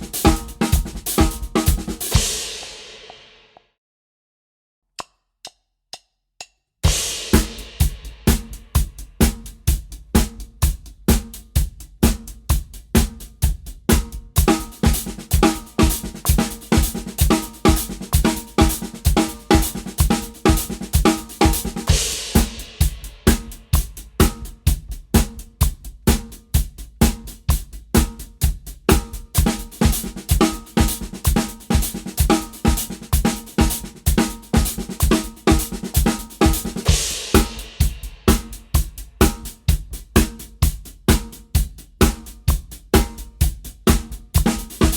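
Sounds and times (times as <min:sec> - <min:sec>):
drum kit groove: 0:00.0 - 0:03.6, 0:06.8 - 0:44.9.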